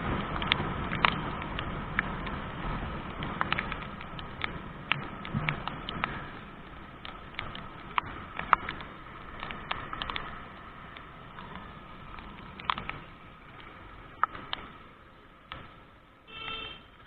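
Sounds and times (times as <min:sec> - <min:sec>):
raindrops tapping: 0:00.0 - 0:16.2
rain hissing: 0:00.0 - 0:17.0.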